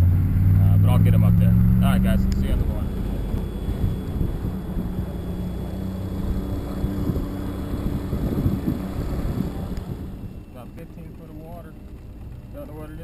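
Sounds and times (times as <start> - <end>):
wind buffeting microphone: 0.0 - 12.6
outboard motor droning: 0.0 - 13.0.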